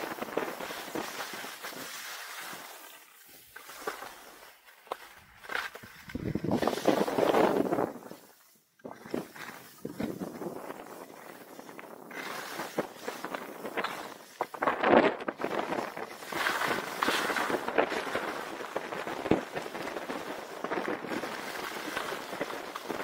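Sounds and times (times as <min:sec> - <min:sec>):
ski edges scraping on ice: 0:00.0 - 0:23.0.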